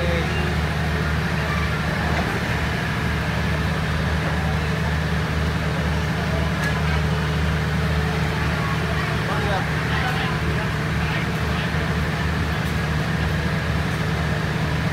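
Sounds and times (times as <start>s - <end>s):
diesel train engine idling: 0.0s - 14.9s
faint voices: 0.0s - 14.9s.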